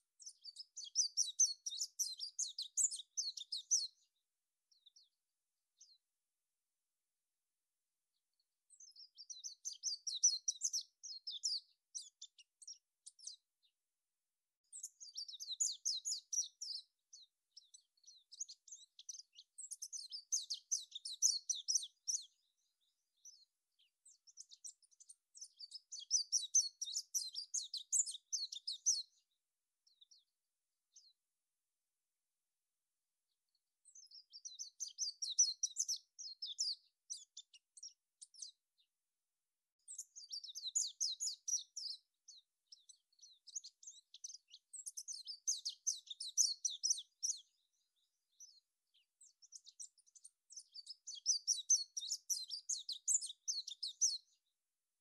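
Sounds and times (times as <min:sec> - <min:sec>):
songbird chirping and twittering: 0:00.0 - 0:06.1, 0:08.0 - 0:13.9, 0:14.6 - 0:31.2, 0:33.3 - 0:39.1, 0:39.8 - 0:55.0.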